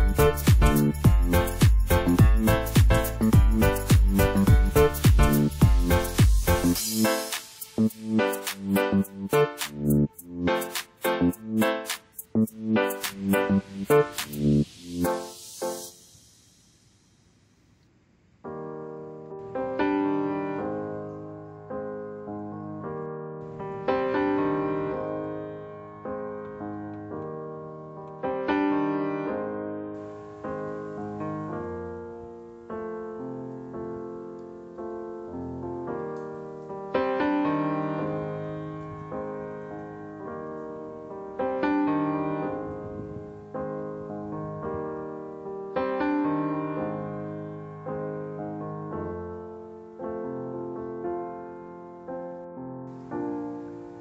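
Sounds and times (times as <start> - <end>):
solo piano music: 0.0 - 16.1, 18.4 - 54.0.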